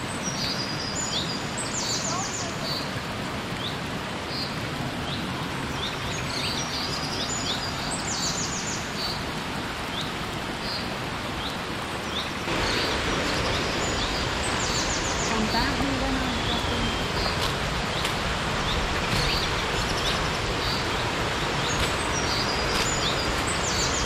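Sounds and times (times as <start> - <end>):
birds chirping: 0.0 - 24.0
waterfall and stream rushing: 0.0 - 24.0.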